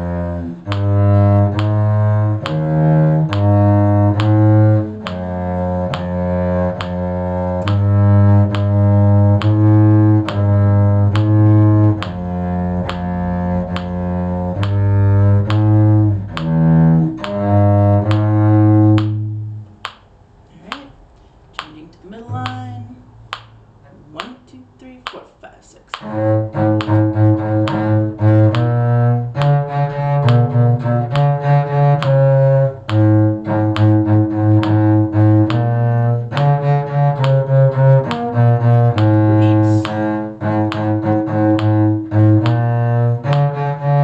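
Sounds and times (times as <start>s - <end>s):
cello bowed notes: 0.0s - 20.0s, 21.6s - 24.3s, 25.9s - 44.0s
metronome ticking: 0.0s - 21.0s, 21.6s - 25.3s, 25.9s - 44.0s.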